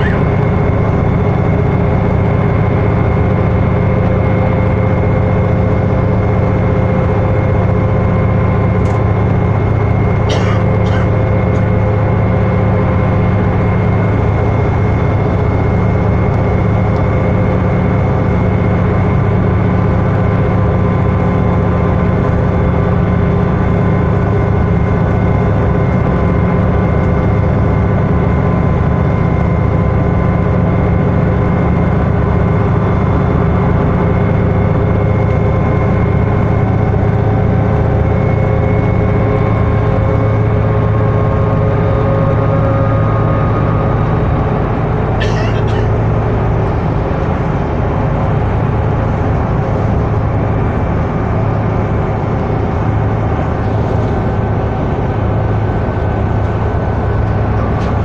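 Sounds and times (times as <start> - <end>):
bus diesel engine drone: 0.0 - 58.0
road and tyre noise: 0.0 - 58.0
transmission whining tones: 0.0 - 58.0.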